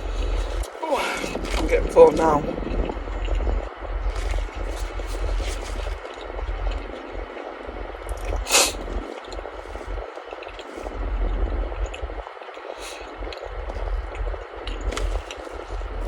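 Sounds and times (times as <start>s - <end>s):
chewing and wet mouth sounds: 0.0s - 16.0s
low rumble: 0.0s - 16.0s.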